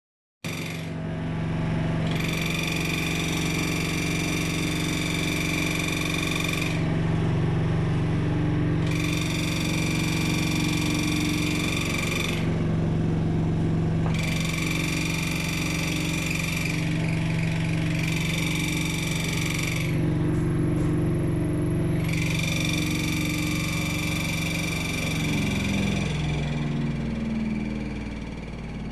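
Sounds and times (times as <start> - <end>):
high-pitched whine: 0.5 - 28.9
washing machine humming: 1.0 - 28.9.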